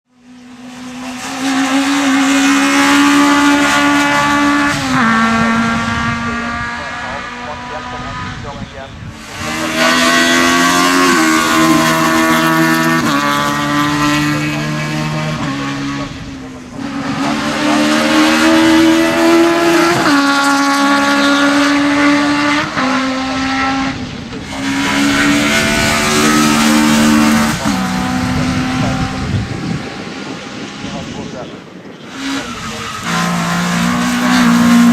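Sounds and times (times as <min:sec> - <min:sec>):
race car engine at high revs: 0:00.1 - 0:34.9.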